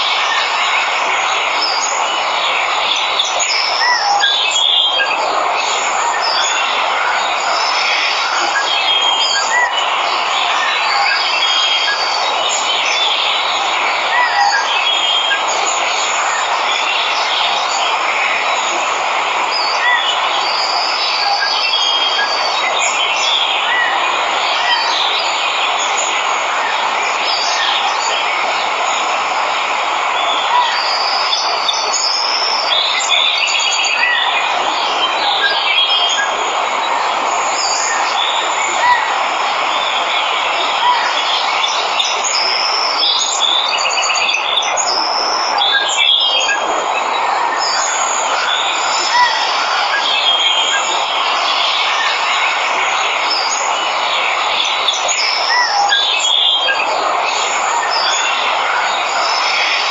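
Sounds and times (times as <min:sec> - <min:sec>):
jungle birds chirping: 0:00.0 - 0:59.9
waterfall rushing: 0:00.0 - 0:59.9.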